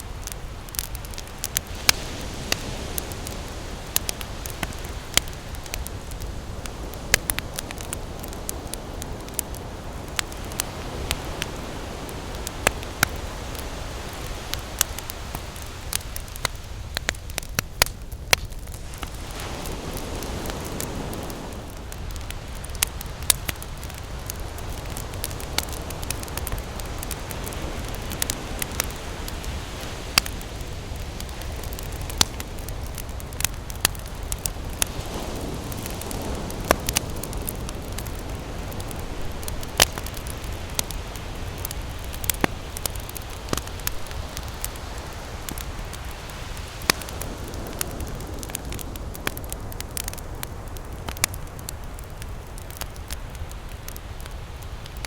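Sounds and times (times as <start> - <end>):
ocean waves: 0.0 - 18.0, 18.6 - 54.9
campfire crackling and popping: 0.0 - 55.0.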